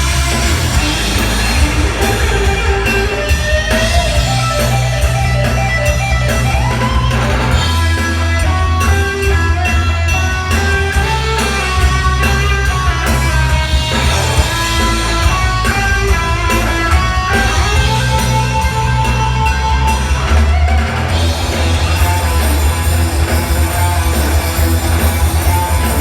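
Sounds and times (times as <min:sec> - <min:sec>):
electric guitar lead bending: 0:00.0 - 0:26.0
rock band playing live: 0:00.0 - 0:26.0.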